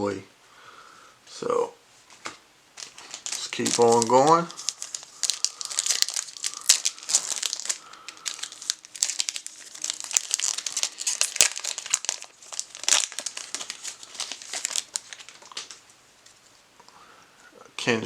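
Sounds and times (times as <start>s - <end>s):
plastic wrapper crinkling: 2.0s - 16.6s.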